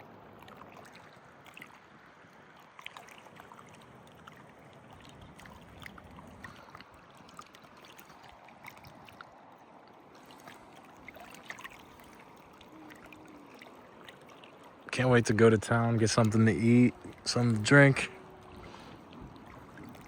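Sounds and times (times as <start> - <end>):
river water over shallow rocks: 0.0 - 20.0
small water splashes: 0.0 - 20.0.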